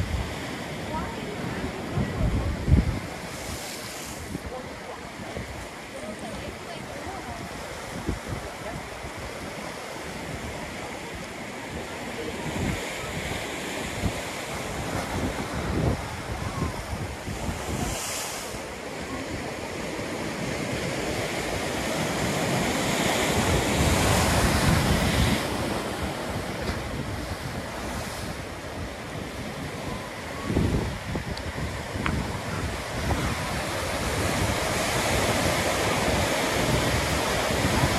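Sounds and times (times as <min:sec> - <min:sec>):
surf crashing on rocks: 0:00.0 - 0:37.9
wind buffeting microphone: 0:00.0 - 0:37.9.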